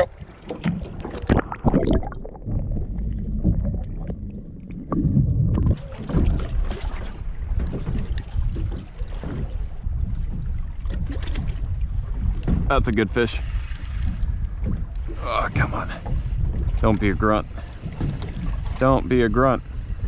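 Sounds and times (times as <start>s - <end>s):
muffled underwater water splashing: 0.0s - 20.0s
water lapping: 0.0s - 20.0s
wind noise: 0.0s - 20.0s.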